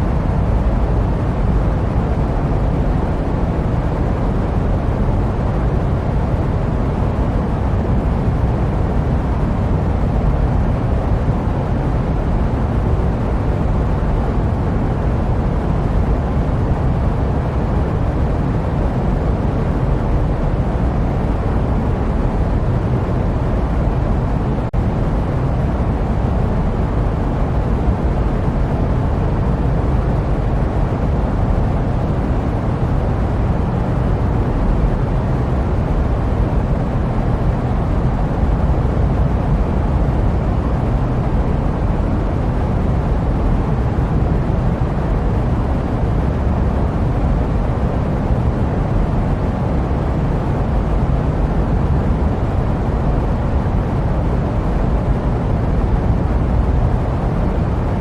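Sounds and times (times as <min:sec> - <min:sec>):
jet airplane rumble: 0:00.0 - 0:58.0.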